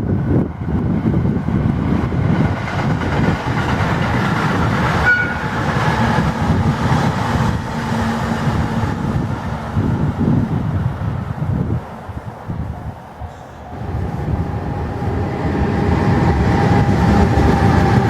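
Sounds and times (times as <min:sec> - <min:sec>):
train wheels rumbling: 0:00.0 - 0:18.0
wind on microphone: 0:00.0 - 0:18.0.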